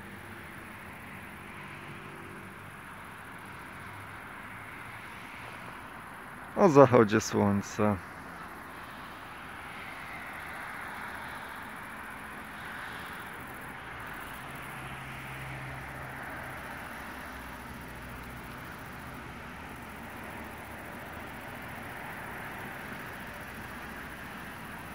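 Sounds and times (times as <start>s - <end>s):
distant vehicle rumble and hiss: 0.0s - 24.9s.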